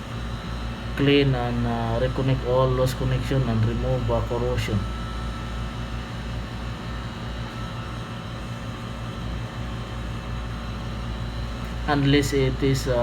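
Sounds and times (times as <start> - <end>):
fan whirring hum: 0.0 - 13.0.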